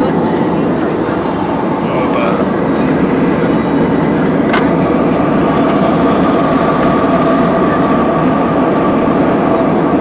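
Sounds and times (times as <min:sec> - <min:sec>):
jet engine roar in cabin: 0:00.0 - 0:10.0.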